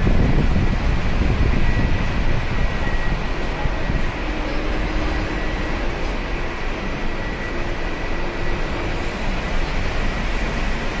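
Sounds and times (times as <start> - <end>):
heavy road traffic roar: 0.0 - 11.0.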